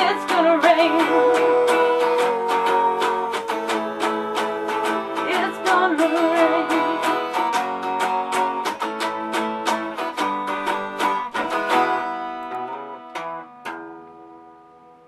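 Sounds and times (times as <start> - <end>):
plucked strings strumming: 0.0 - 15.0.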